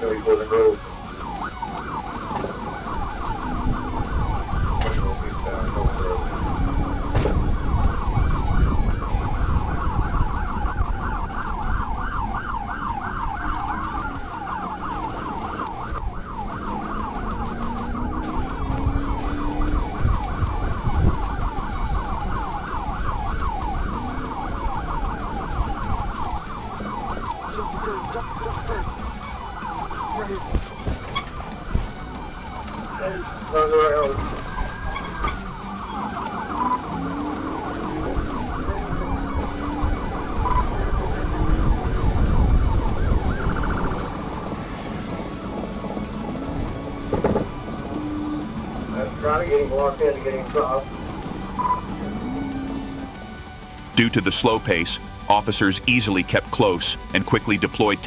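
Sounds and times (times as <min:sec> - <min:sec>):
car engine and road rumble: 0:00.0 - 0:58.0
police siren yelping: 0:00.0 - 0:58.0.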